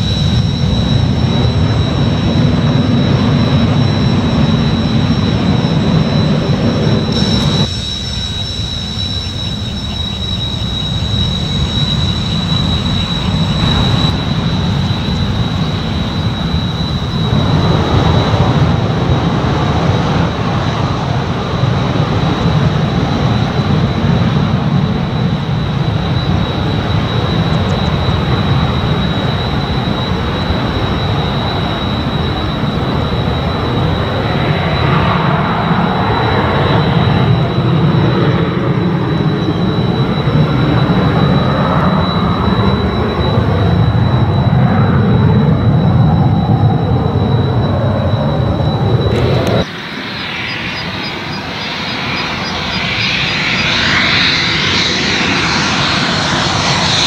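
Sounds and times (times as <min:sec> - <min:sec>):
jet engines whining and rumbling: 0:00.0 - 0:57.0
jet taking off: 0:00.0 - 0:57.0.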